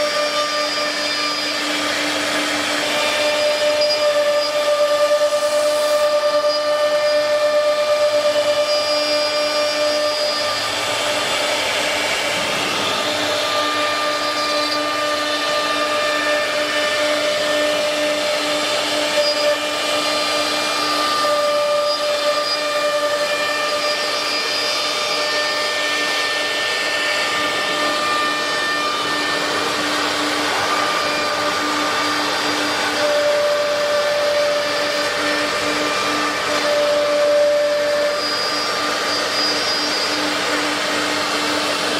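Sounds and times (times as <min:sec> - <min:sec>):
bit cutting through wood: 0:00.0 - 0:41.9
router spindle whining: 0:00.0 - 0:41.9.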